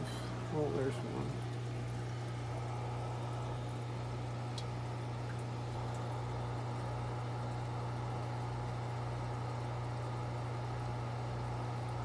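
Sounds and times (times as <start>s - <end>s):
aquarium equipment hum: 0.0s - 12.0s.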